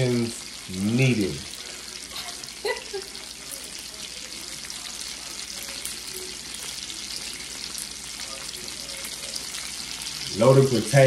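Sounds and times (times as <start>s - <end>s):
burger patties sizzling: 0.0s - 11.0s.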